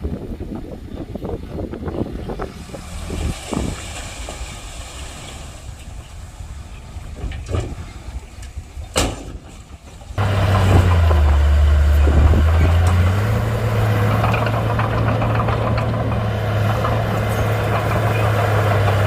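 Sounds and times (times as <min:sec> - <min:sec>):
bulldozer diesel engine running: 0:01.2 - 0:19.0.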